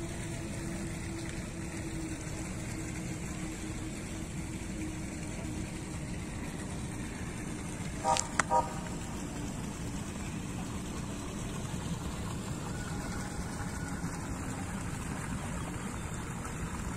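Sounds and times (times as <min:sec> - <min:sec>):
faint steady hum: 0:00.0 - 0:16.9
water pouring into pond: 0:00.0 - 0:16.9.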